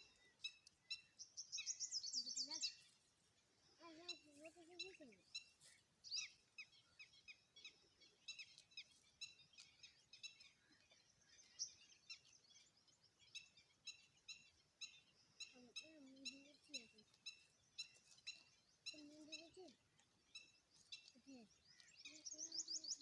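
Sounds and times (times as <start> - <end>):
faint small birds chirping: 0.0 - 23.0.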